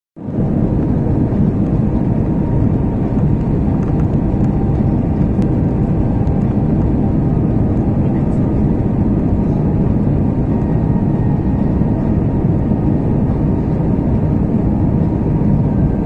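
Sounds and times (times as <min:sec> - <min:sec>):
airplane cabin engine rumble: 0:00.2 - 0:16.0.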